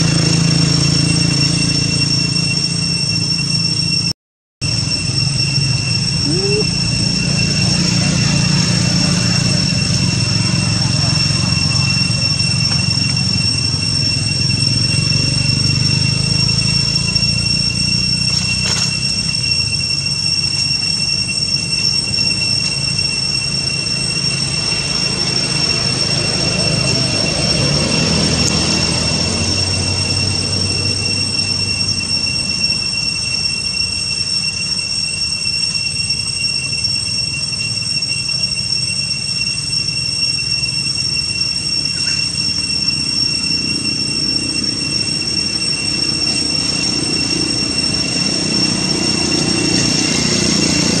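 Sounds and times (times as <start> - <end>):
cicadas droning: 0.0 - 51.0.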